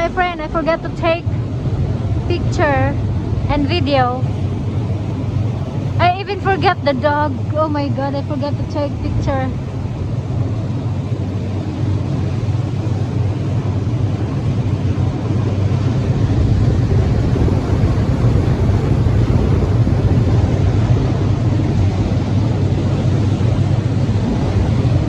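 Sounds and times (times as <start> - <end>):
ferry engines droning: 0.0 - 25.0.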